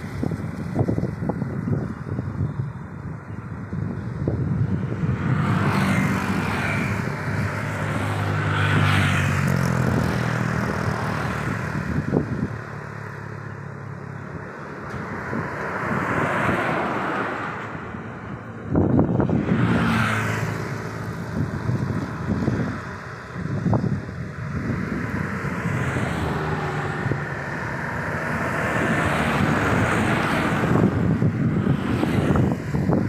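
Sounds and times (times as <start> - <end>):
cars passing: 0.0 - 33.0
heavy truck passing: 0.0 - 33.0
motorcycles passing: 0.0 - 33.0.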